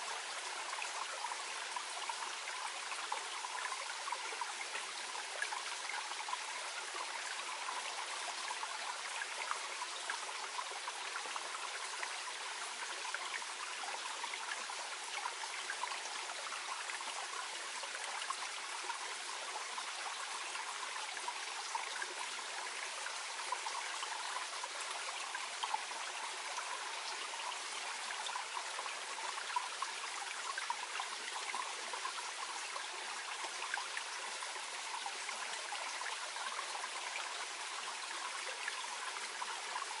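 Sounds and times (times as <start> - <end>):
stream babbling over stones: 0.0 - 40.0.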